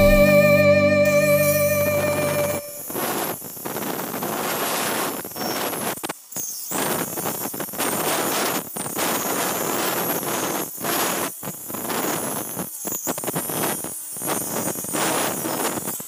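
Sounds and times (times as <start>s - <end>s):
circular saw cutting bamboo: 2.7s - 16.0s.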